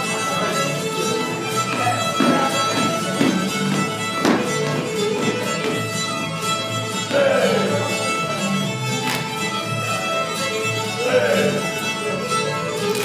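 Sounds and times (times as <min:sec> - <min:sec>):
fiddle dance tune: 0:00.0 - 0:13.0.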